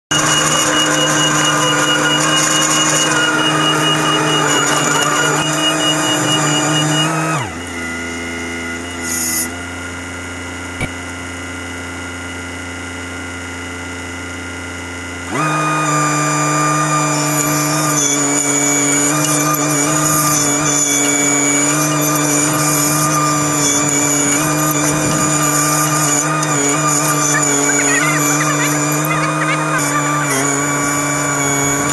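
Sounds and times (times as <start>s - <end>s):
mini excavator diesel engine: 0.0s - 31.9s.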